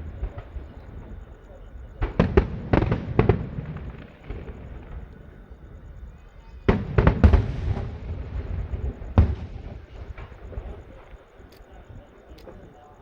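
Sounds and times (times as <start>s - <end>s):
fireworks bangs: 0.0s - 12.8s.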